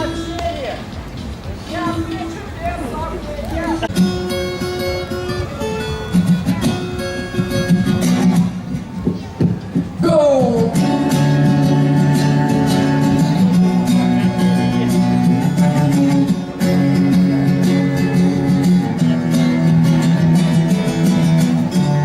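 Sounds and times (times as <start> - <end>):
rock band playing: 3.8 - 22.0.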